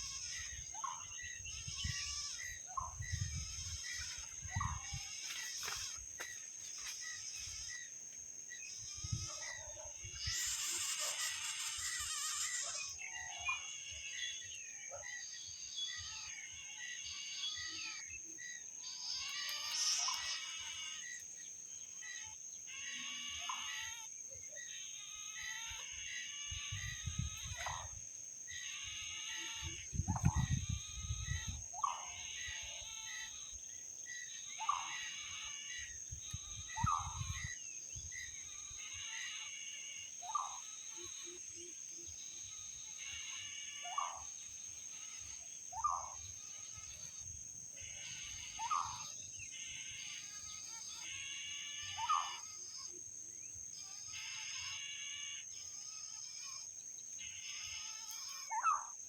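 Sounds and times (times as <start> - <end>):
high insect whine: 0.0 - 59.0
trilling insect calls: 0.0 - 59.0.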